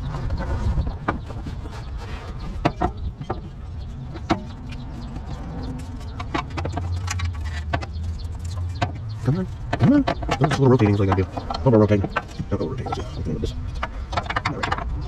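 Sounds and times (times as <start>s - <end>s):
sharp clicks and knocks: 0.0s - 15.0s.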